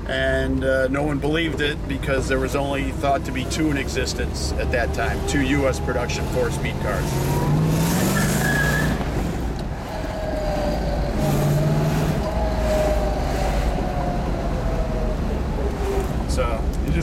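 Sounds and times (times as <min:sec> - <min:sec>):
road noise: 0:00.0 - 0:17.0
car engine accelerating: 0:00.4 - 0:17.0.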